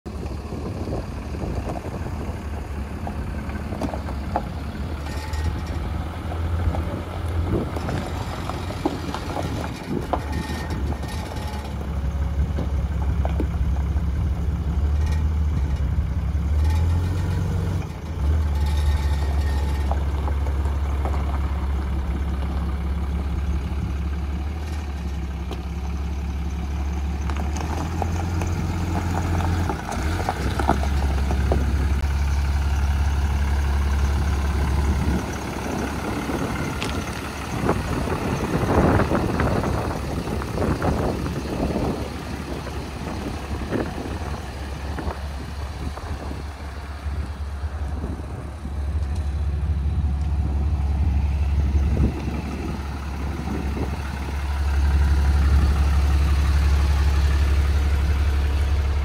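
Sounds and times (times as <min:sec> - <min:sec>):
tires crunching gravel: 0:00.1 - 0:59.0
truck engine running: 0:00.1 - 0:59.0.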